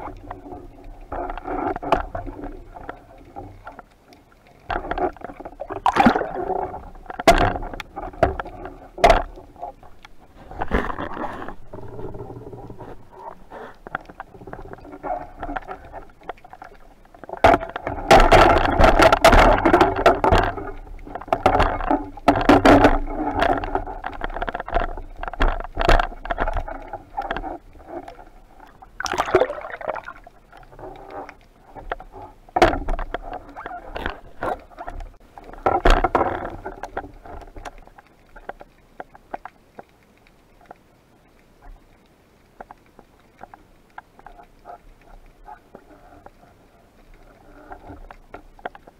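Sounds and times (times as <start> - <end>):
underwater knocks and scrapes: 0.0 - 48.9
underwater rushes of water: 0.0 - 48.9.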